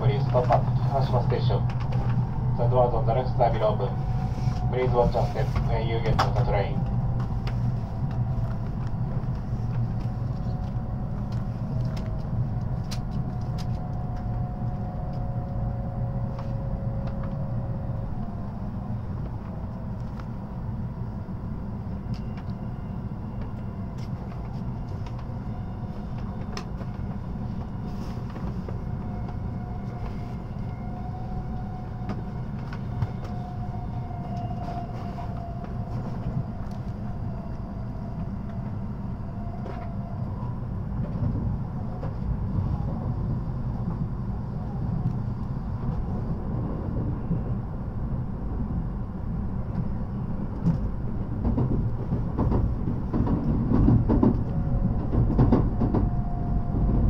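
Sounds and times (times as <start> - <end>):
train cabin low rumble with whine: 0.0 - 57.0.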